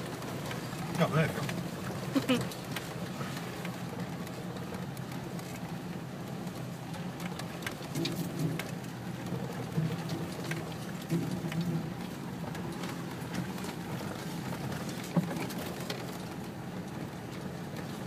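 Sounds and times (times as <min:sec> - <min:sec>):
vehicle clicks and knocks: 0:00.0 - 0:18.0
vehicle engine drone: 0:00.0 - 0:18.0.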